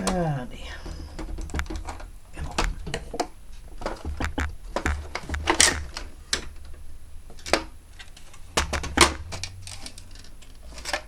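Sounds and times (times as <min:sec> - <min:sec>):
plastic and metal parts clicking: 0:00.8 - 0:11.0.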